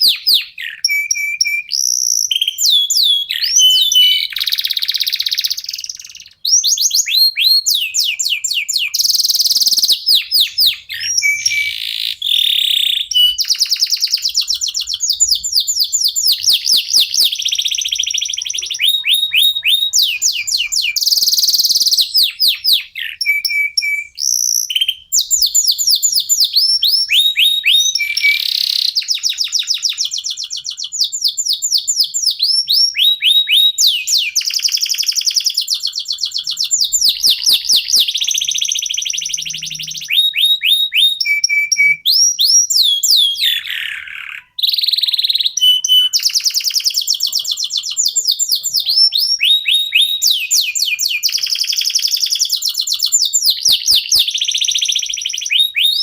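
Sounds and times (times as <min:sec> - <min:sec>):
canary trilling: 0:00.0 - 0:56.0.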